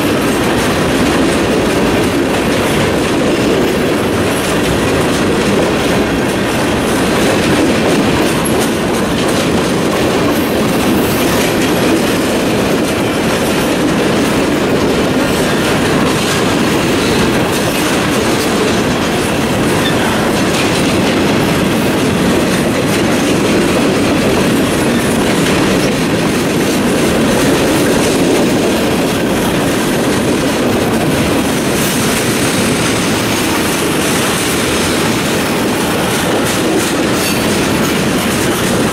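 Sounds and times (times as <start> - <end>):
steel wheels rumbling on rail: 0.0 - 38.9
wheels clicking over rail joints: 0.0 - 38.9.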